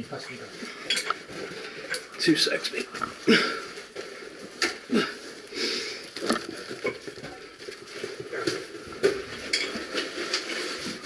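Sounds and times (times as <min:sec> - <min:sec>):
gear scraping and rustling: 0:00.3 - 0:11.0.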